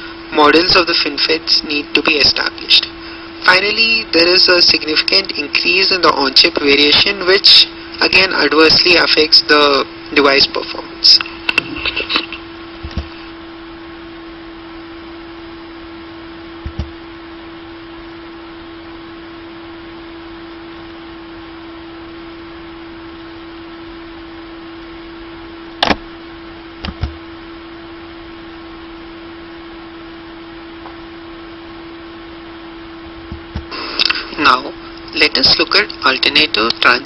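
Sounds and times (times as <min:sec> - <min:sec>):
background hum and hiss: 0:00.0 - 0:37.0.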